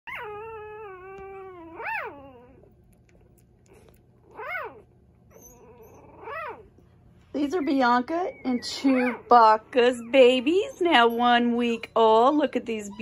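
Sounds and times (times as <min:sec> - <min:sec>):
puppy whining and squealing: 0:00.1 - 0:06.8, 0:07.4 - 0:13.0.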